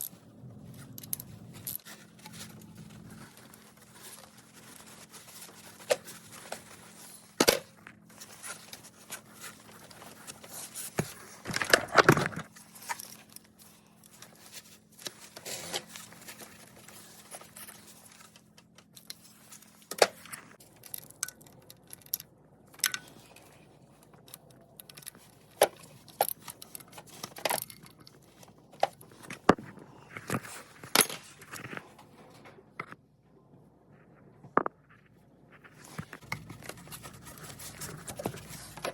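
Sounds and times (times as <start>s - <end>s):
rustling and scraping: 0.0s - 38.9s.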